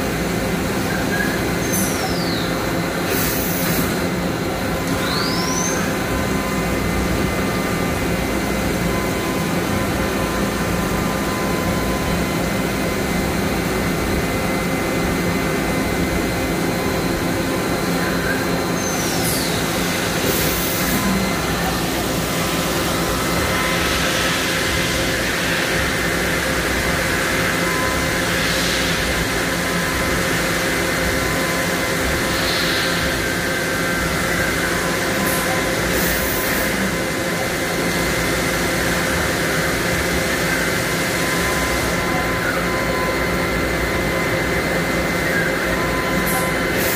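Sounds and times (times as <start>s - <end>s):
machine hum: 0.0s - 46.9s
spindle whine: 3.8s - 46.9s.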